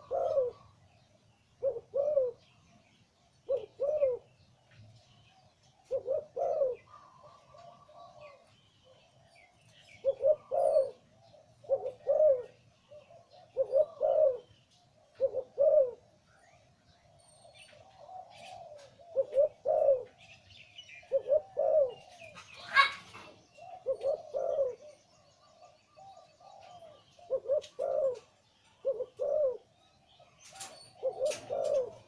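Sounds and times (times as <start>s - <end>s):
dove cooing: 0.0s - 0.8s, 1.5s - 2.6s, 3.4s - 4.5s, 5.4s - 16.1s, 17.1s - 32.0s
small birds chirping: 0.0s - 32.0s.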